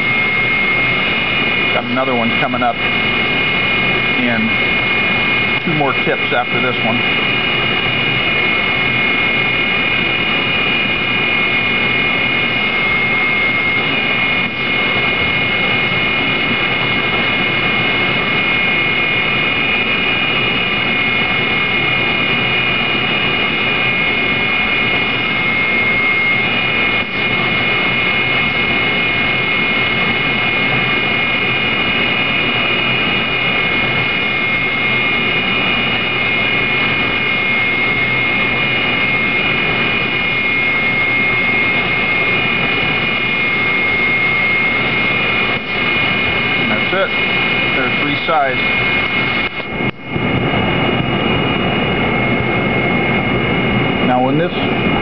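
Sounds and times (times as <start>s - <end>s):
grinder high whine: 0.0s - 55.0s.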